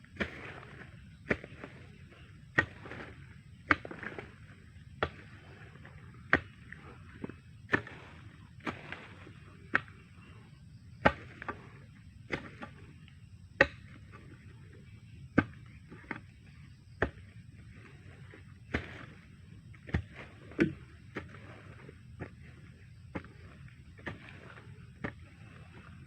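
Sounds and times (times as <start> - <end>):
digging tool striking ground: 0.0 - 10.0, 11.0 - 12.9, 13.5 - 14.5, 17.0 - 25.8.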